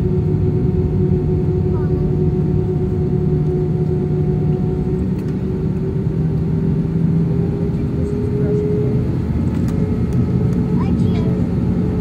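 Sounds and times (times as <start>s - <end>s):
jet engines humming in cabin: 0.0s - 12.0s.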